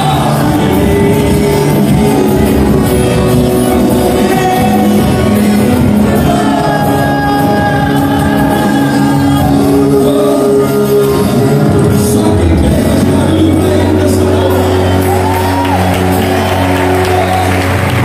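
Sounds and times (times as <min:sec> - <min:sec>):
gospel band playing: 0:00.0 - 0:18.0
people singing: 0:00.0 - 0:18.0.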